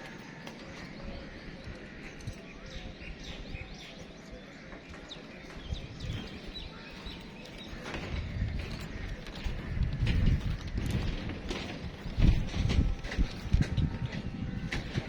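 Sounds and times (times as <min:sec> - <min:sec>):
birds chirping: 0:00.0 - 0:15.0
scattered clicks and knocks: 0:00.0 - 0:15.0.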